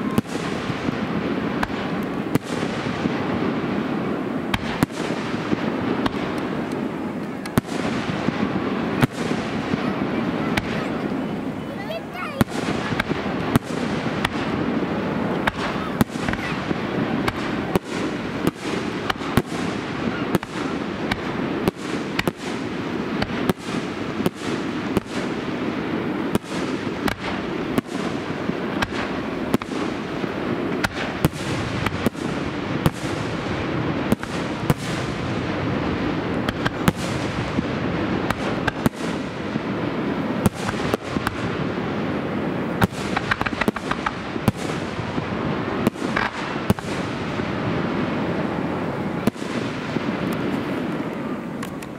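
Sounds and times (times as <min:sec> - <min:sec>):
continuous crackle and rumble: 0:00.0 - 0:03.4, 0:04.5 - 0:24.4, 0:25.0 - 0:51.9.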